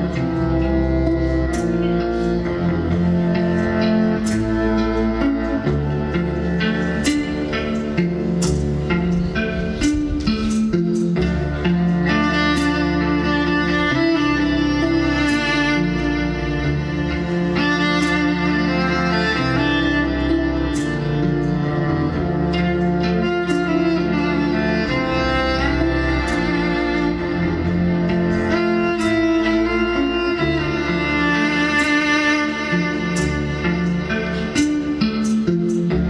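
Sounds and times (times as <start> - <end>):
bowed cello melody: 0.0 - 36.0
sustained lower cello parts: 0.0 - 36.0.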